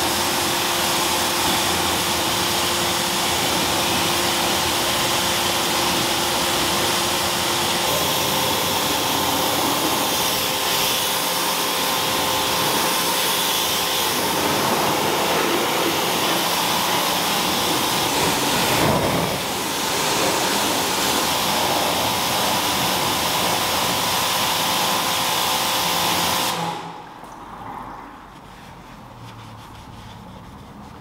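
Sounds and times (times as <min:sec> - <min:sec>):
pressure washer spray hissing: 0:00.0 - 0:27.0.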